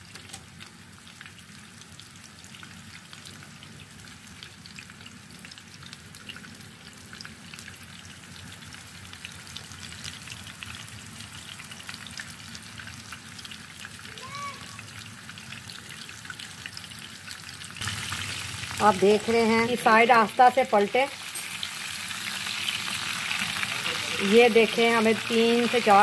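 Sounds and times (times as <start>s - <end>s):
meat sizzling in hot oil: 0.0s - 26.0s.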